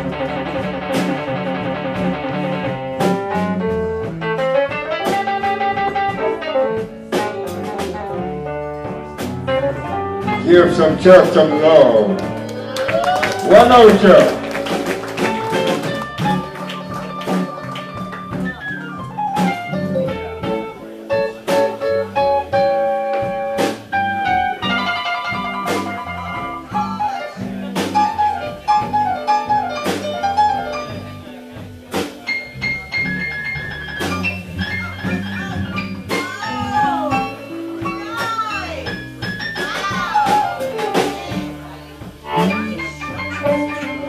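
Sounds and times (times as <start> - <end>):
blues band playing: 0.0 - 44.0
drums hitting a backbeat: 0.0 - 44.0
electric guitar bent notes: 0.0 - 44.0.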